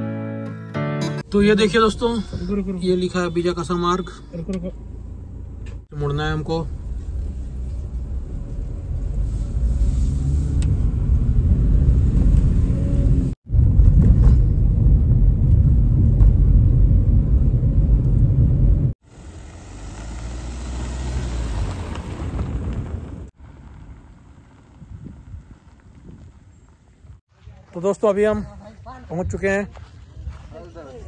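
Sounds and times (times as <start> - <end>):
car engine and road rumble: 1.2 - 28.0.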